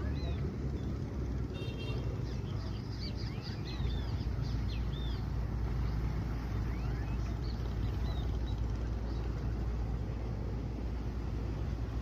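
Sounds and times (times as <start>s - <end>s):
small birds chirping: 0.0s - 12.0s
speedboat engine rumbling: 0.0s - 12.0s.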